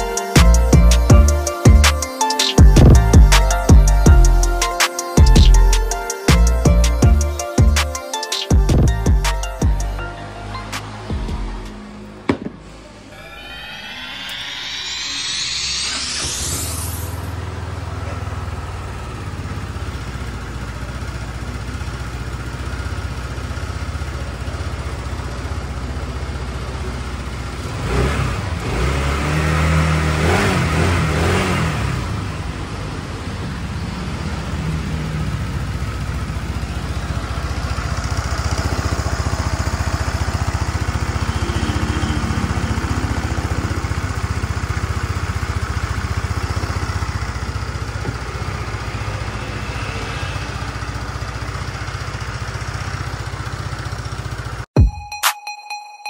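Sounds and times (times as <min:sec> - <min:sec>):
scooter engine idling and revving: 0:00.0 - 0:13.1, 0:16.8 - 0:54.8.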